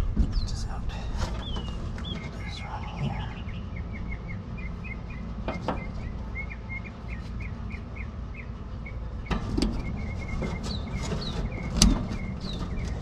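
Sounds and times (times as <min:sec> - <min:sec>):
small bird chirping: 0:00.3 - 0:13.0.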